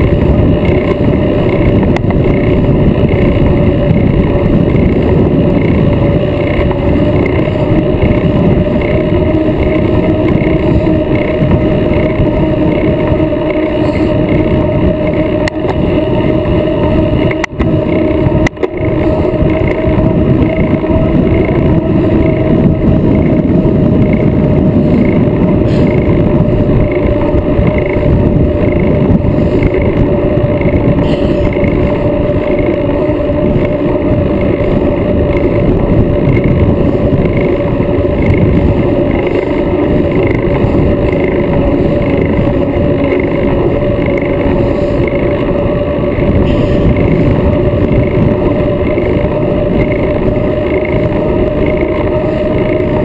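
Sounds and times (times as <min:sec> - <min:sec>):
low hum: 0:00.0 - 0:53.0
road noise: 0:00.0 - 0:53.0
wind rush on microphone: 0:00.0 - 0:53.0.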